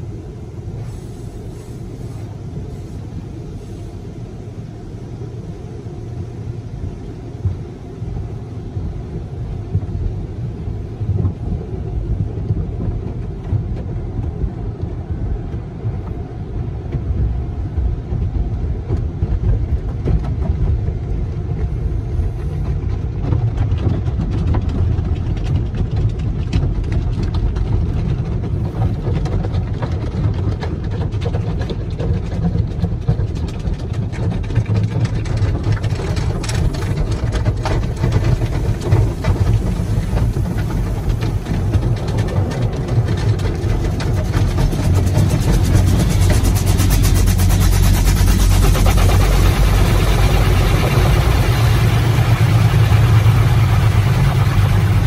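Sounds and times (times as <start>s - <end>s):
car wash brushes and spray: 0.0s - 55.0s.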